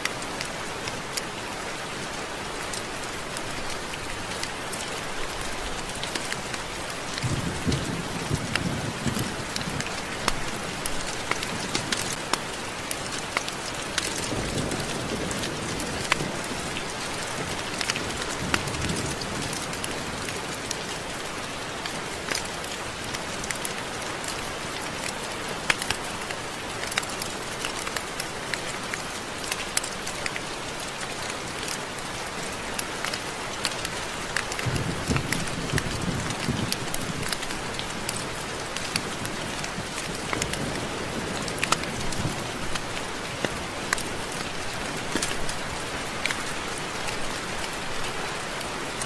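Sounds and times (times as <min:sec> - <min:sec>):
rain drops ticking on a surface: 0:00.0 - 0:49.0.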